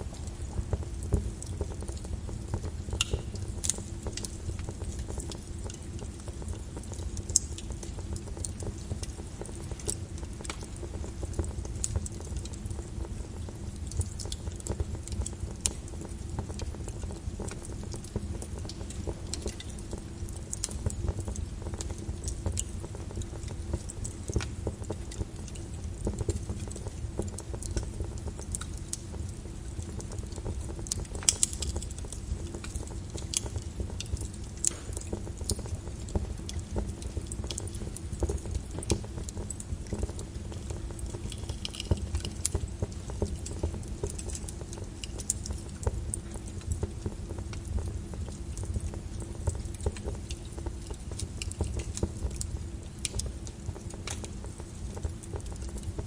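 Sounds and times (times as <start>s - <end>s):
lava crackling and popping: 0.0s - 56.0s
lava flow rumbling: 0.0s - 56.0s.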